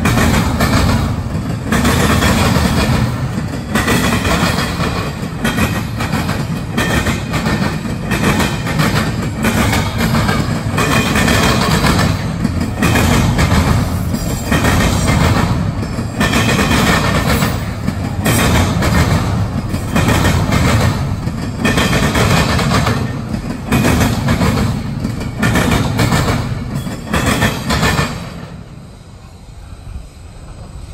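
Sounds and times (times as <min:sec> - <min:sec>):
train wheels clacking over rails: 0:00.0 - 0:30.9.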